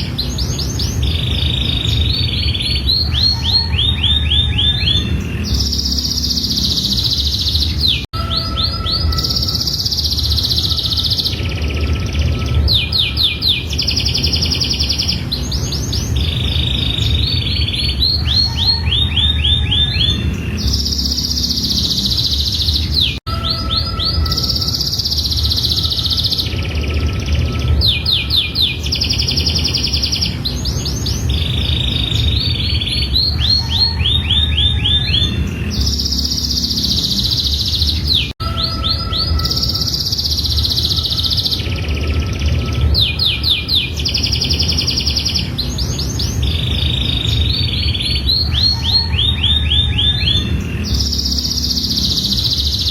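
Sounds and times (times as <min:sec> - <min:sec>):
canary singing trills: 0:00.0 - 0:52.9
steady low rumble: 0:00.0 - 0:52.9.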